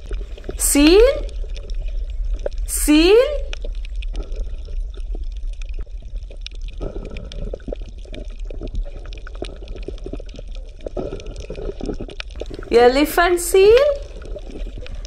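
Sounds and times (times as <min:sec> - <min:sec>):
water bubbling and popping: 0:00.0 - 0:15.0.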